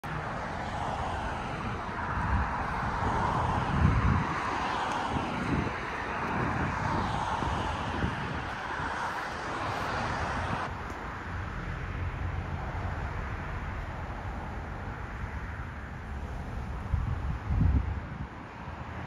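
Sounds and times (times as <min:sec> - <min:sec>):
road traffic hiss and hum: 0:00.0 - 0:19.0.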